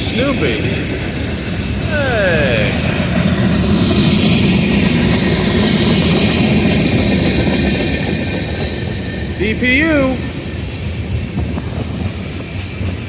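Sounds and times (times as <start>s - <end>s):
freight train rumbling: 0.0s - 13.0s
rail hiss: 0.0s - 13.0s.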